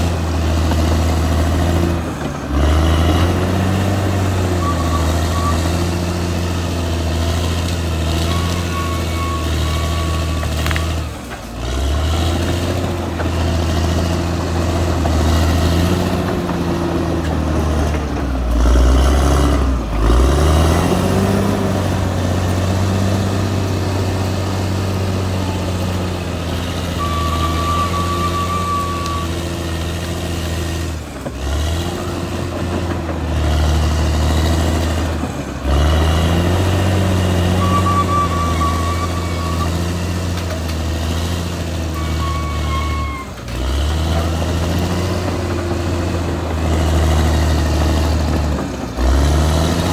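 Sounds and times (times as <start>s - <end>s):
bulldozer diesel engine working: 0.0s - 49.9s.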